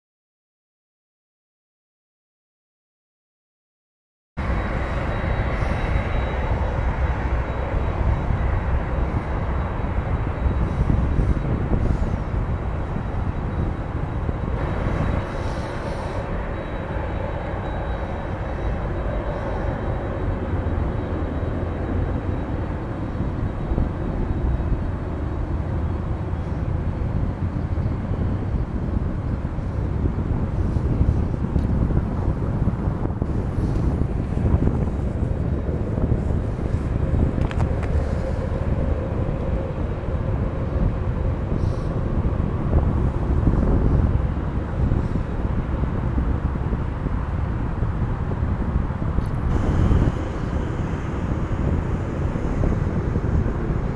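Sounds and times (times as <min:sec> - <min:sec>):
faint jet engine whine: 0:04.4 - 0:53.9
jet engines rumbling: 0:04.4 - 0:53.9.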